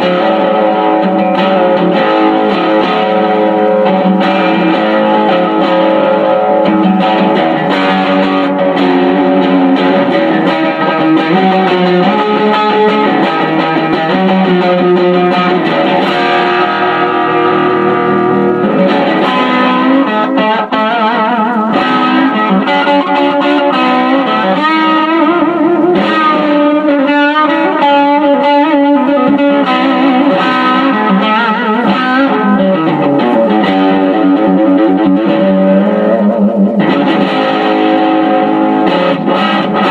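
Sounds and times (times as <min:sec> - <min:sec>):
distorted electric guitar lead: 0:00.0 - 0:39.9.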